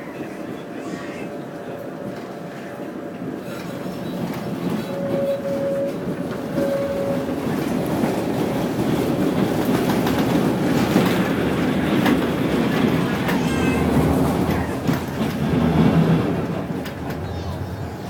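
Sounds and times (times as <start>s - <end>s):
tram running on rails: 0.0s - 18.0s
wheel clatter over rail joints: 3.4s - 18.0s.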